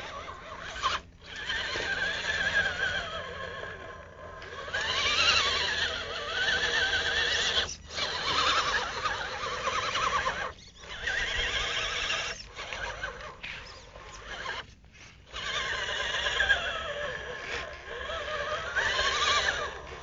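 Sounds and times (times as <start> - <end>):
toy truck motor whining: 0.0 - 20.0.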